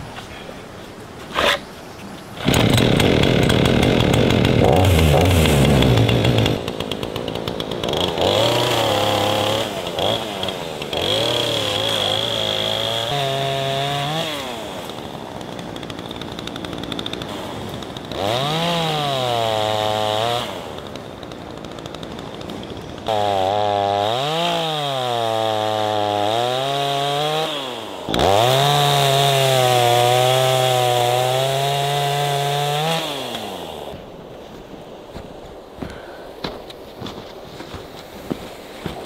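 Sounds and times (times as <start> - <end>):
chainsaw cutting wood: 2.4 - 34.1.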